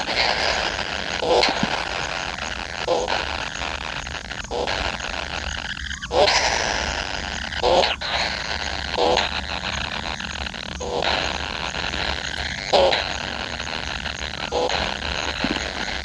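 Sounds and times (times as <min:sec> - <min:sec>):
nestlings rasping begging chorus: 0:00.0 - 0:16.0.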